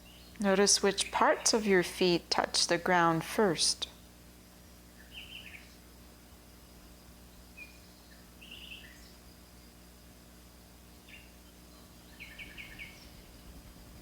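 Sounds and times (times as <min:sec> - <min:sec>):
faint birdsong: 0:00.0 - 0:14.0
low background hum: 0:00.0 - 0:14.0.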